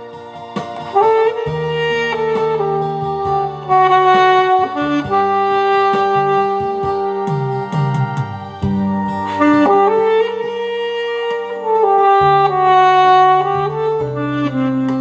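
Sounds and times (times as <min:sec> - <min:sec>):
saxophone playing slow melody: 0:00.0 - 0:15.0.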